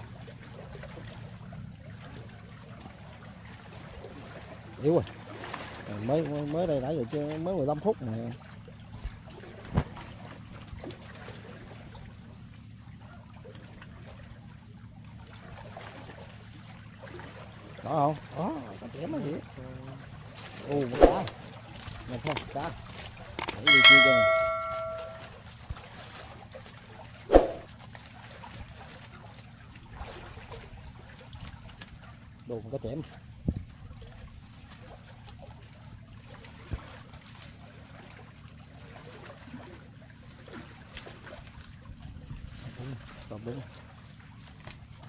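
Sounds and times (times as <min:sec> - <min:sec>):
water rushing and trickling: 0:00.0 - 0:25.2, 0:25.9 - 0:45.0.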